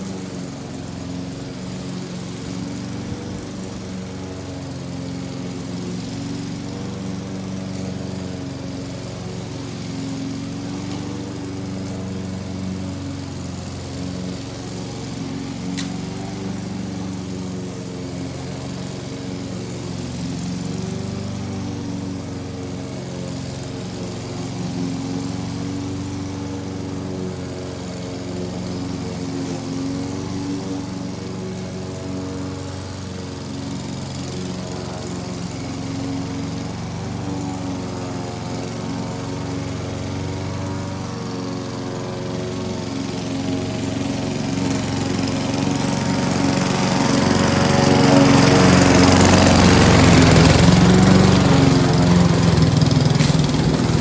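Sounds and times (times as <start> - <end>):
push mower engine cutting grass: 0.0 - 54.0.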